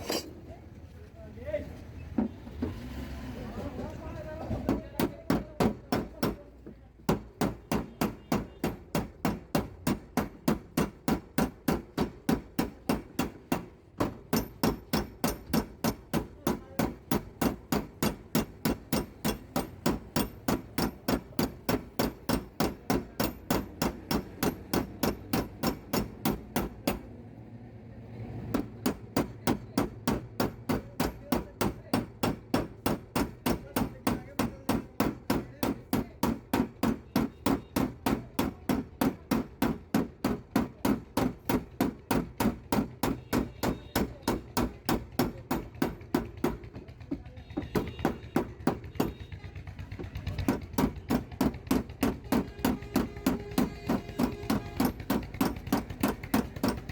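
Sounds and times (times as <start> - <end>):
hammer knocking on steel panel: 4.5 - 27.0, 28.5 - 56.9.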